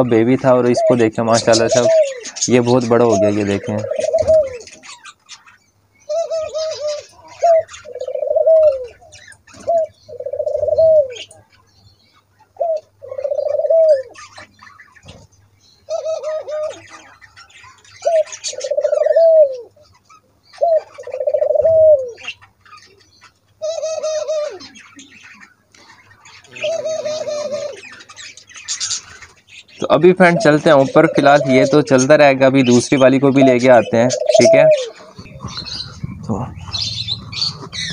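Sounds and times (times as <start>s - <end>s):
doves cooing: 0.0s - 37.9s
small birds chirping faintly: 0.0s - 37.9s.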